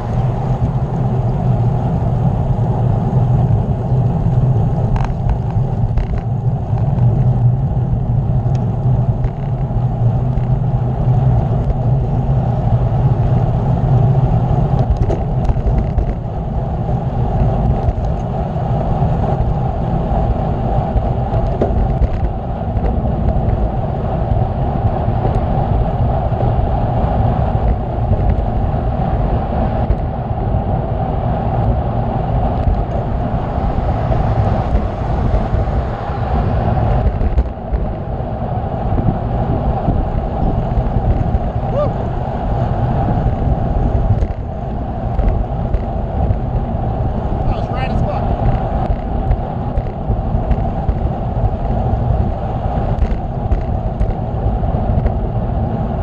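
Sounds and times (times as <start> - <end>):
low hum: 0.0 - 56.0
road rumble: 0.0 - 56.0
wind rushing on microphone: 0.0 - 56.0.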